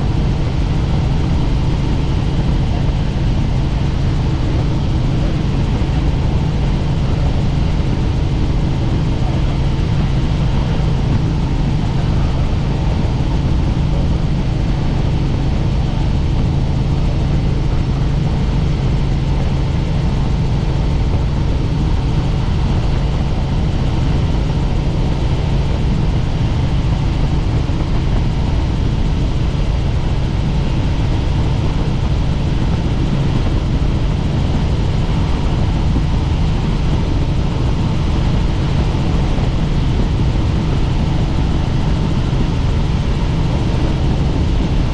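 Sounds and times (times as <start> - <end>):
helicopter rotors and engine droning: 0.0 - 44.9.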